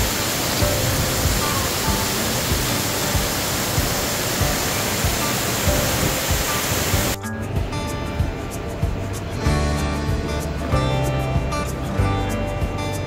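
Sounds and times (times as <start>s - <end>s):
loud rushing noise: 0.0s - 10.8s
music with low beat: 0.0s - 13.0s.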